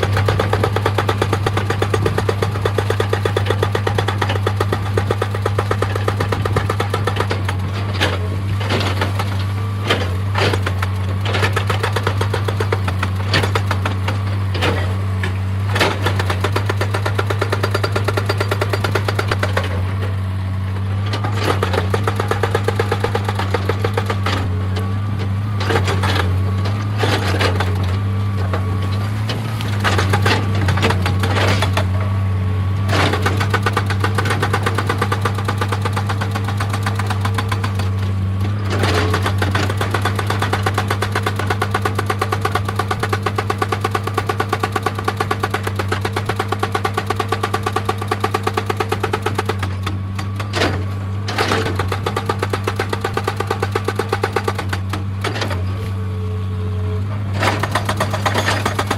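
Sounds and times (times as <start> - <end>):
hydraulic breaker hammering rock: 0.0 - 32.1, 32.8 - 56.2, 57.1 - 58.9
excavator diesel engine running: 0.0 - 58.9.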